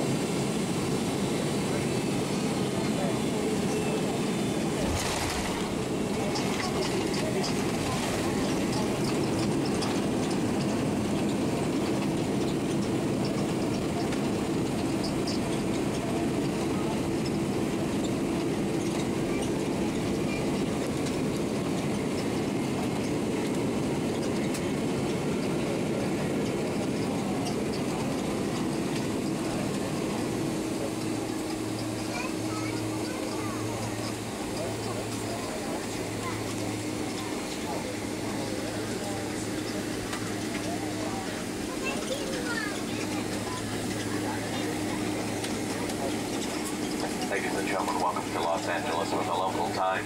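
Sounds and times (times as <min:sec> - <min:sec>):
airplane cabin rumble on runway: 0:00.0 - 0:50.0.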